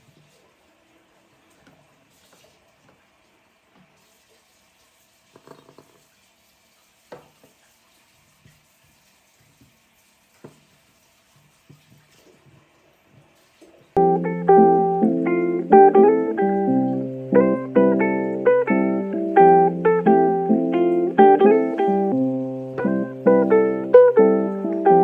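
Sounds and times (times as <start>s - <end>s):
water running from a tap: 0.0s - 25.0s.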